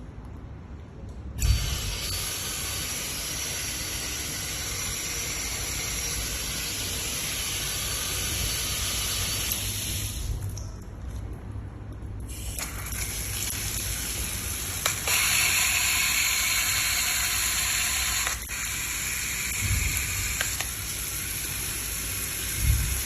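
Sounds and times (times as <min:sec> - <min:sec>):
water rushing from tap: 0:01.4 - 0:10.6, 0:12.3 - 0:23.0.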